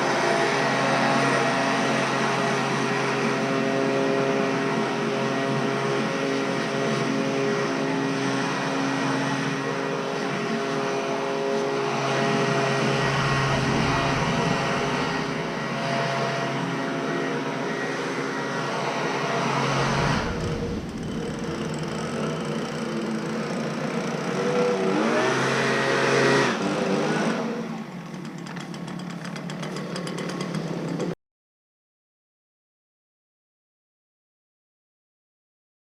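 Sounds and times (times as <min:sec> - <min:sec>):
lawn mower engine running: 0:00.0 - 0:31.1.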